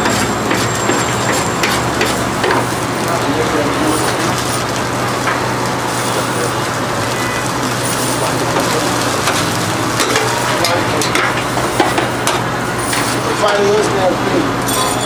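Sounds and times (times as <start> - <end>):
meat sizzling on rotisserie: 0.0 - 15.0.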